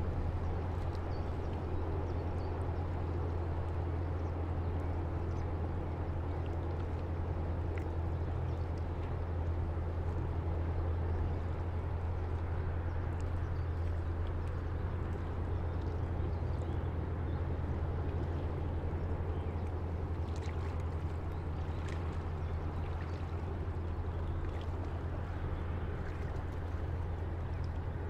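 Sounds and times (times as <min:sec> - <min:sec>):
ship engine droning: 0:00.0 - 0:28.0
water lapping against breakwater: 0:00.0 - 0:28.0.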